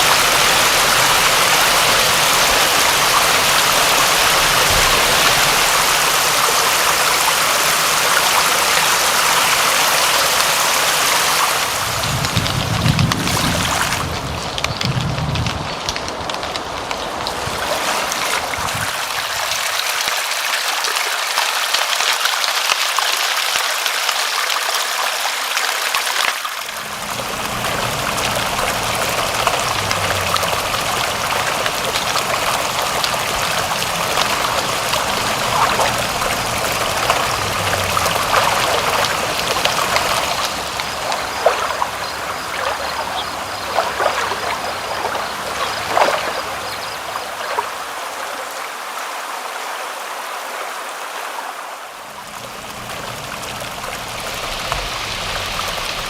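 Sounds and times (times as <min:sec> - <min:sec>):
water drips: 0:00.0 - 0:48.6, 0:52.1 - 0:56.0
running water trickling: 0:00.0 - 0:49.0, 0:52.0 - 0:56.0.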